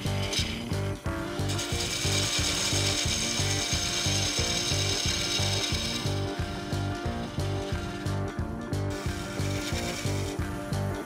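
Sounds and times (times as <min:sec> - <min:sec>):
background music with beat: 0:00.0 - 0:11.0
gouge cutting wood on lathe: 0:00.0 - 0:11.0.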